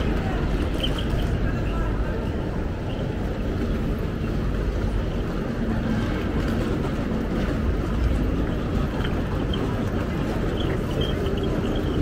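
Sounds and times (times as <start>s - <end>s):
railway rumble: 0.0s - 12.0s.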